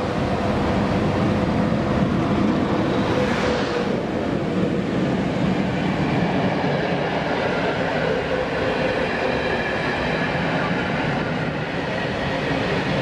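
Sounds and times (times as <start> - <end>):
train wagons rumbling past: 0.0 - 13.0.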